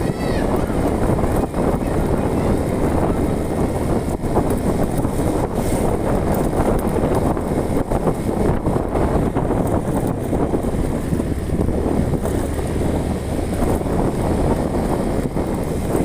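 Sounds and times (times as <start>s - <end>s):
vehicle engine and road rumble: 0.0s - 16.0s
wind buffeting microphone: 0.0s - 16.0s.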